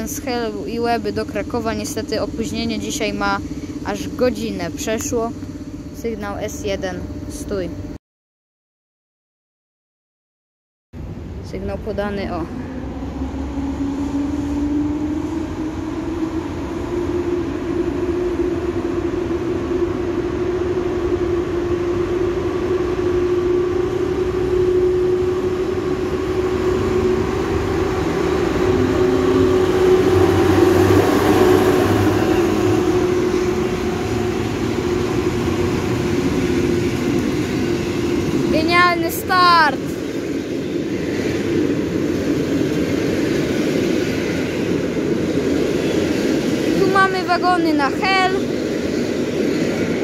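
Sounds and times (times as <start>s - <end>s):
passenger train passing: 0.0s - 8.0s, 11.0s - 50.0s.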